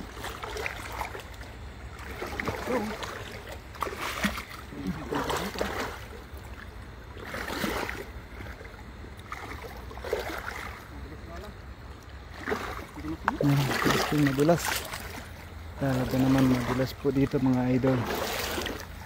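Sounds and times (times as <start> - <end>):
feet wading through shallow water: 0.0 - 19.0.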